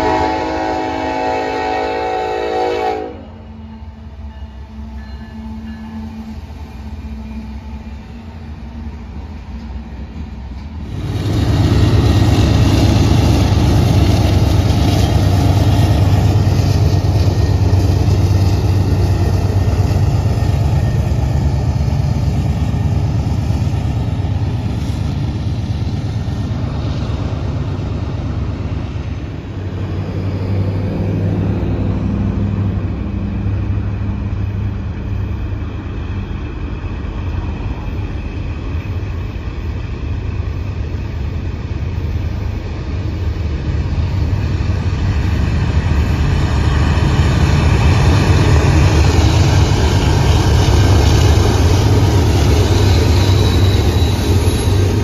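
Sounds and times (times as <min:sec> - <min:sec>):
rail noise: 0:00.0 - 0:55.0
train engine: 0:00.0 - 0:55.0.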